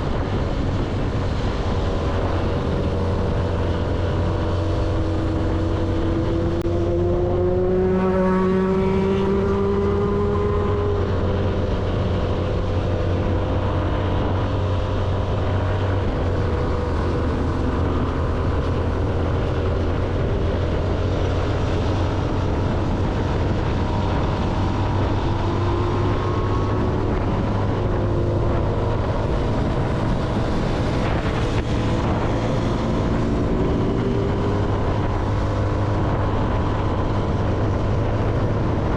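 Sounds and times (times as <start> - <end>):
motorcycle engine running: 0.0 - 38.9
steady rushing noise: 0.0 - 38.9.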